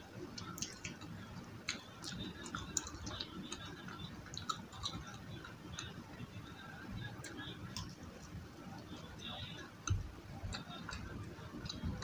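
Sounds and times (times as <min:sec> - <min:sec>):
chewing crunchy fried food: 0:00.2 - 0:12.0.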